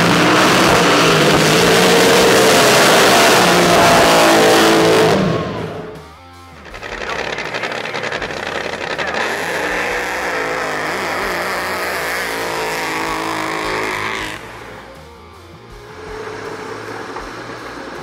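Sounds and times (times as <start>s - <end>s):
boat engine roaring: 0.0s - 18.0s.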